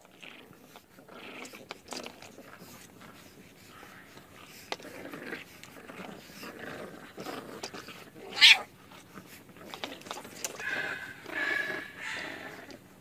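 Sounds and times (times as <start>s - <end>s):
quiet scattered noises: 0.0s - 13.0s.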